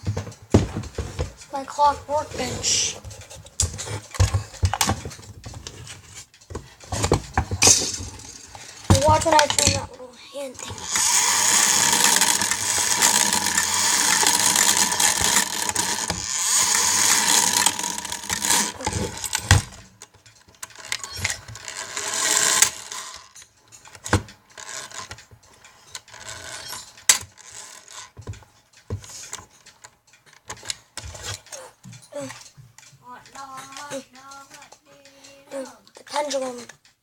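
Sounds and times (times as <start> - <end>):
mechanism clicks and knocks: 0.0 - 34.8
clock gear train whirring: 1.0 - 37.0.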